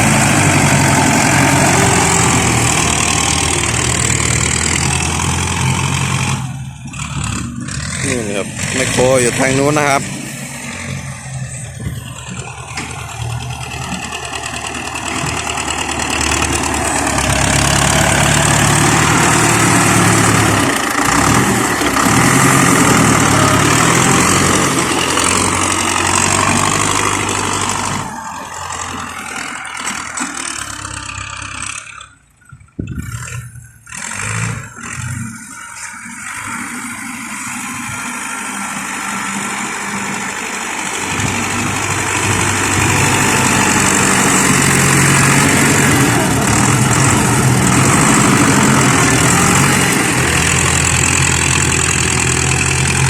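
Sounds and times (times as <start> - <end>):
heavy diesel machinery engine: 0.0 - 53.0.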